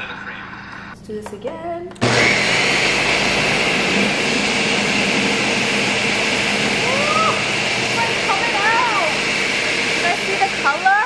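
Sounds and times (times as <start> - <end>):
blender running: 2.0 - 11.0.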